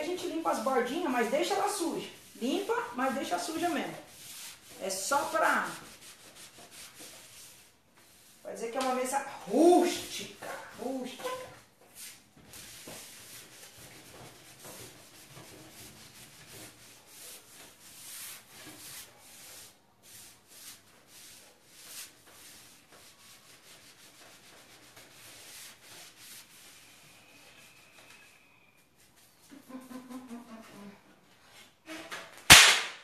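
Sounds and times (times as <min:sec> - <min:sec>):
rubbing on wooden table: 0:00.0 - 0:28.0.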